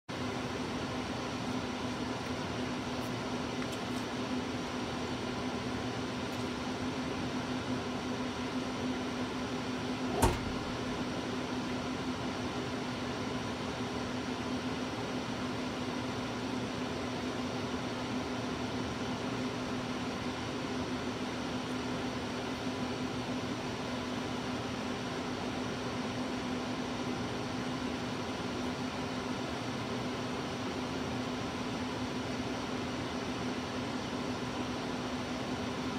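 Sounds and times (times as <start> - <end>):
electrical hum: 0.1 - 35.9.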